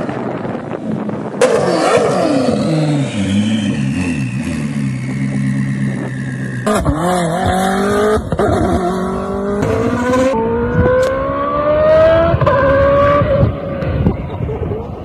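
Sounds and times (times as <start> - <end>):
car engine accelerating: 1.0 - 15.0.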